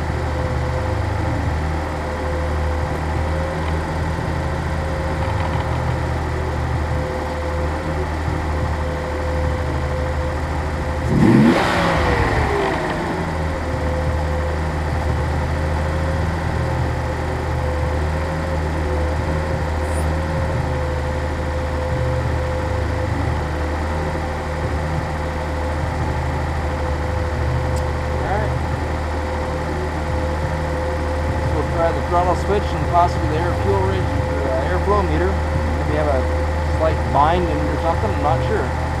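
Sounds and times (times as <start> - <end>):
car engine revving and idling: 0.0 - 39.0.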